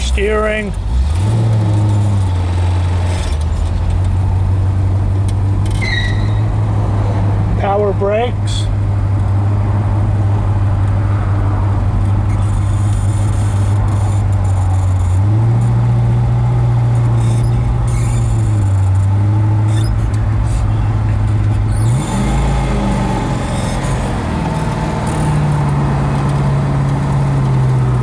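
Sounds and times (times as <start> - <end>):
car engine pulling away: 0.0 - 28.0.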